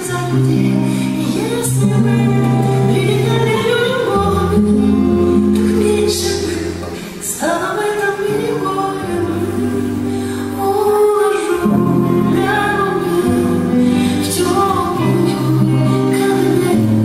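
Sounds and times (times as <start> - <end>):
woman singing long notes: 0.0 - 17.0.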